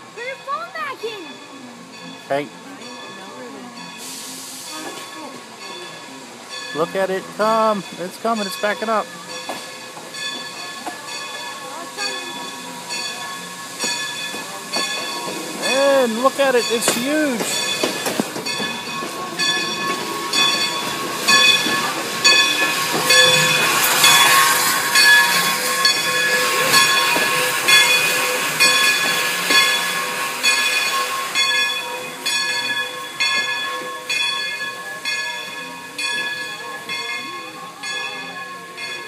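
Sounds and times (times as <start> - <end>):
locomotive bell ringing: 0.0 - 39.0
steam hissing: 3.8 - 39.0.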